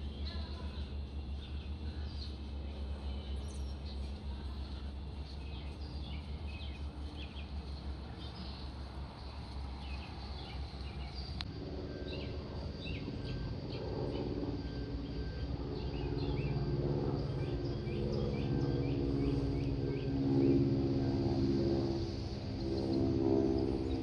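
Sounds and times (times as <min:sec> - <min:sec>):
low drone of steady tones: 0:00.0 - 0:24.0
small birds chirping: 0:00.0 - 0:24.0.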